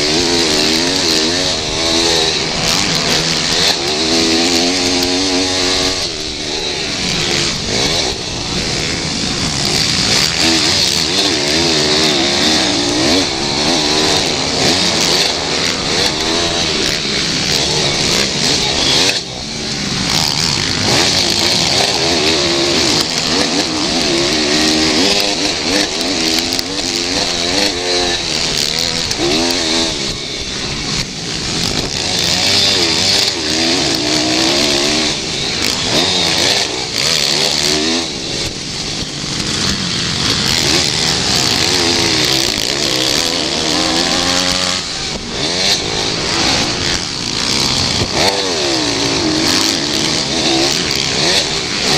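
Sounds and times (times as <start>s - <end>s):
pit bike engines revving: 0.0s - 51.9s.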